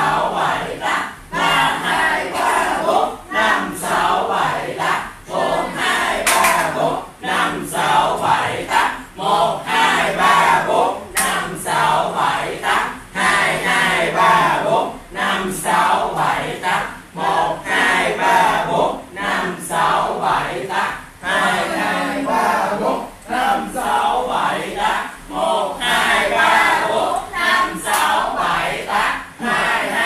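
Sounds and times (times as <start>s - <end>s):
crowd chanting in unison: 0.0s - 30.0s.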